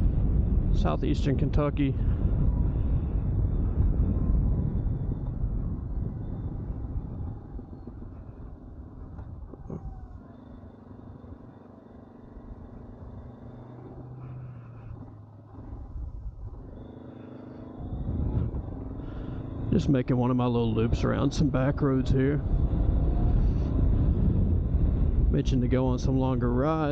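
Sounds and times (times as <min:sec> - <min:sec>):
wind rumble on microphone: 0:00.0 - 0:17.0, 0:17.6 - 0:26.9
motorcycle engine running: 0:00.0 - 0:26.9.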